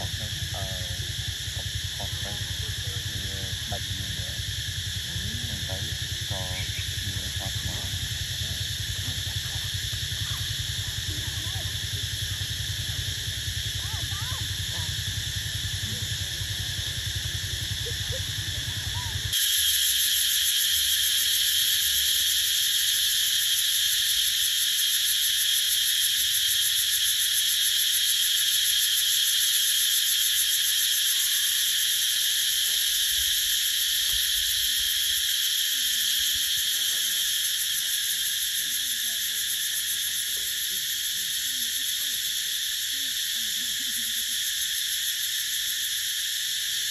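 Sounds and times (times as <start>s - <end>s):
insect chorus drone: 0.0s - 46.9s.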